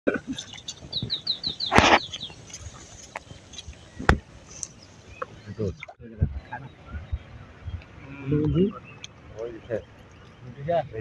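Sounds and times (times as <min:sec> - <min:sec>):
bird chirping: 0:00.3 - 0:11.0.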